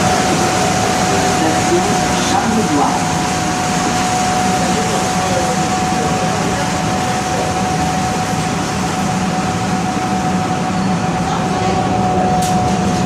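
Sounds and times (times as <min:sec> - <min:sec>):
steady high-pitched whine: 0:00.0 - 0:13.0
subway train running: 0:00.0 - 0:13.0.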